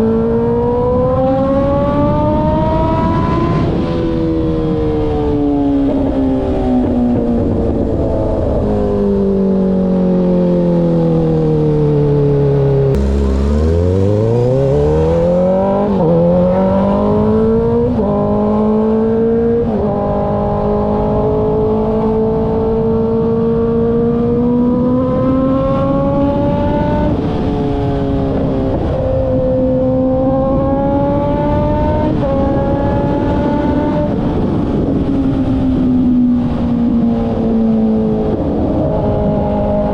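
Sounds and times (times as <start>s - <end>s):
motorcycle engine shifting gears: 0.0s - 39.9s
wind noise: 0.0s - 39.9s.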